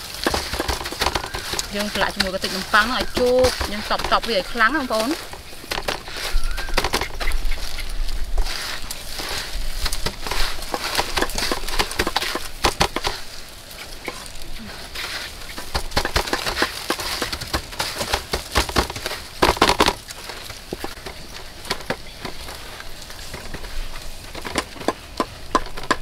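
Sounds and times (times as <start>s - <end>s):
breadcrumbs crunching and rustling: 0.0s - 26.0s.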